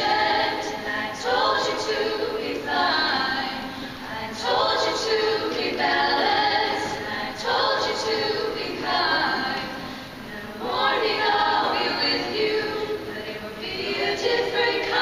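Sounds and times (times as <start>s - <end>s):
female choir singing: 0.0s - 15.0s.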